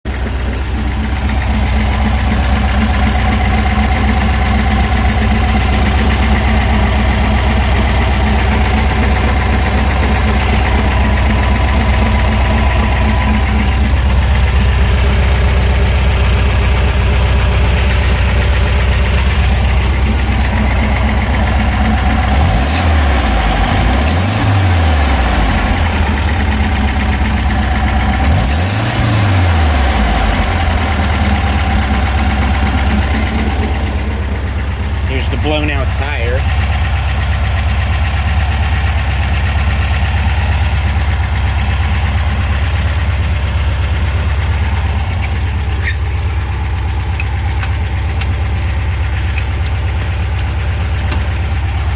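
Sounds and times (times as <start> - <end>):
car engine idling: 0.0 - 51.9
car engine revving: 0.2 - 51.9.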